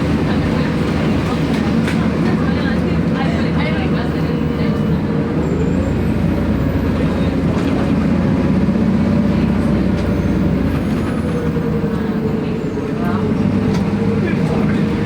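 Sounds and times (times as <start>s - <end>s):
bus engine running: 0.0s - 15.0s
road noise: 0.0s - 15.0s.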